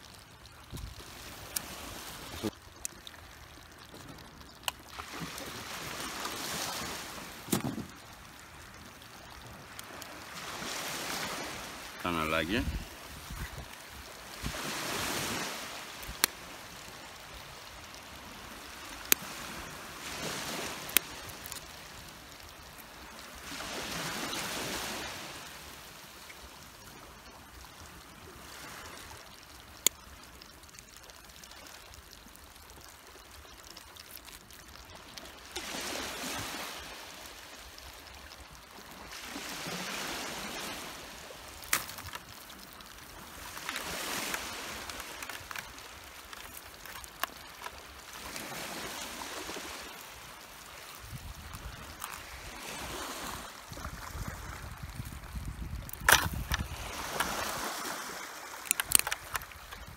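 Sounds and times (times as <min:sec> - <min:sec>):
small waves washing on shore: 0:00.0 - 0:59.9.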